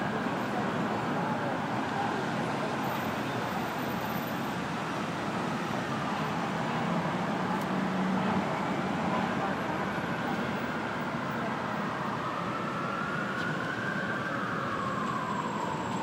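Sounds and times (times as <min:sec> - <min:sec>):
city traffic noise: 0:00.0 - 0:16.0.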